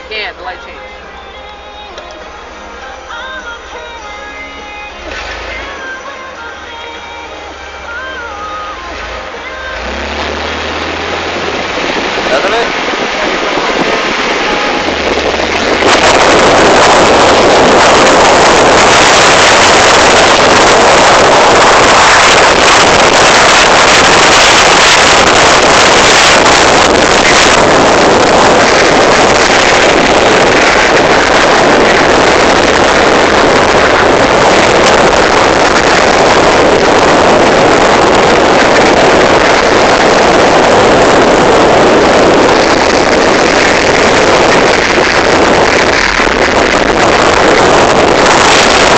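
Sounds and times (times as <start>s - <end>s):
wind buffeting microphone: 8.8s - 48.9s.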